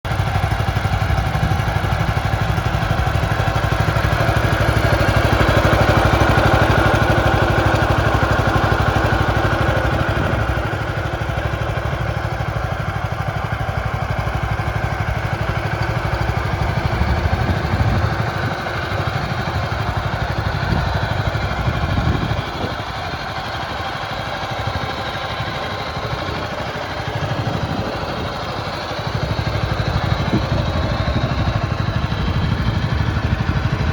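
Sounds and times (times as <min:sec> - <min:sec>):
small tractor engine running: 0:00.0 - 0:33.9.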